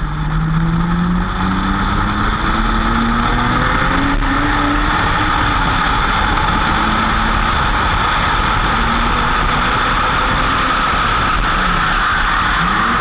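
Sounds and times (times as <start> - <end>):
faint car engine: 0.0 - 13.0
wind and road noise: 0.0 - 13.0.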